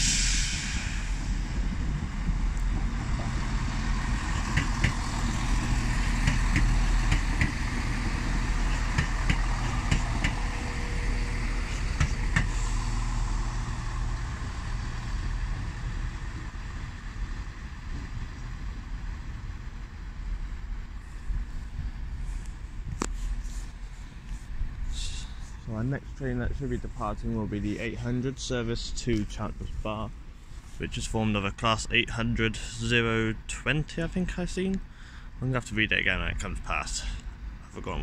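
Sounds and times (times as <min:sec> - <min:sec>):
train diesel engines rumbling: 0:00.0 - 0:38.0.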